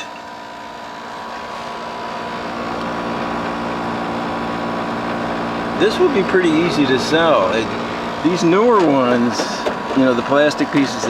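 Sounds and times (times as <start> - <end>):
dehumidifier motor hum: 0.0 - 11.0.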